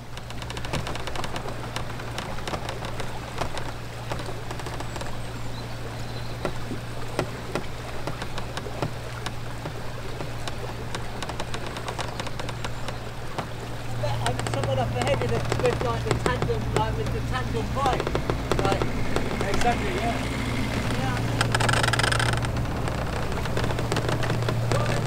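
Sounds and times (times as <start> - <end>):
boat engine droning: 0.0 - 25.0
water lapping against hull: 0.0 - 25.0.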